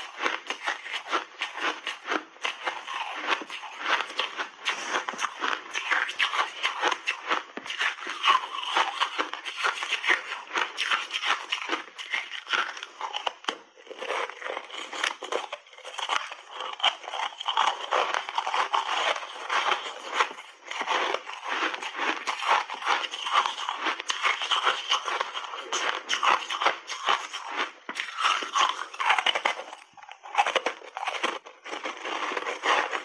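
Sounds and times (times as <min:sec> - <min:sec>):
ice balls crunching when chewed: 0:00.0 - 0:33.0.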